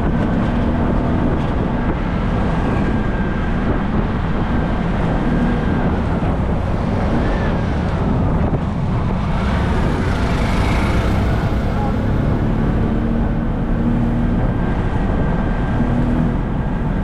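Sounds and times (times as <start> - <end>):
auto-rickshaw engine running: 0.0 - 17.0
road noise: 0.0 - 17.0
wind buffeting microphone: 0.0 - 17.0.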